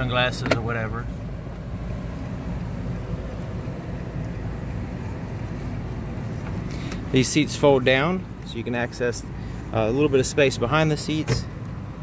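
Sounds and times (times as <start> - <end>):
truck engine idling hum: 0.0 - 12.0.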